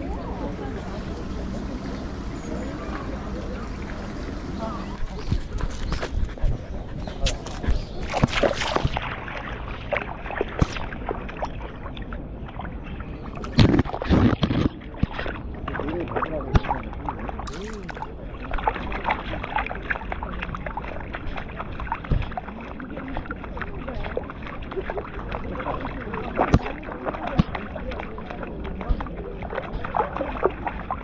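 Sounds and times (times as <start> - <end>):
dog wading through stream splashing: 0.0 - 31.0.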